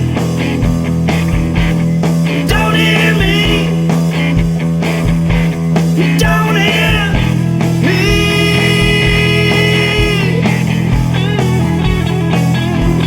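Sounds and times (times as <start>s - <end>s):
bass guitar: 0.0s - 13.0s
electric guitar lead: 0.0s - 13.0s.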